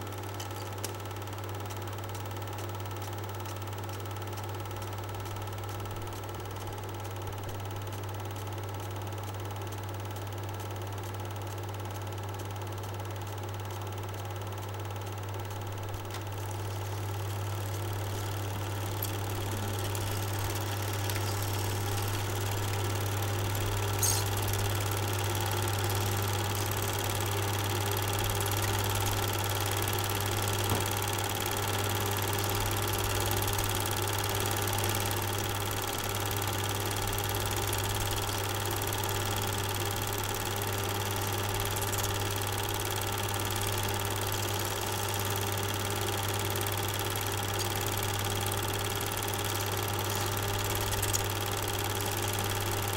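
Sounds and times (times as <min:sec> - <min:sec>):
film projector whirring: 0:00.0 - 0:52.9.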